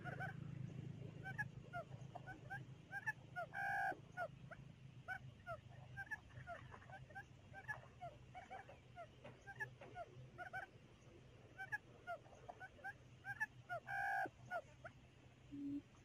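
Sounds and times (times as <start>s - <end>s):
quail honking call: 0.0s - 0.4s, 1.2s - 10.7s, 11.6s - 14.9s
quail chirps: 0.0s - 16.0s
steady low hum: 0.0s - 16.0s.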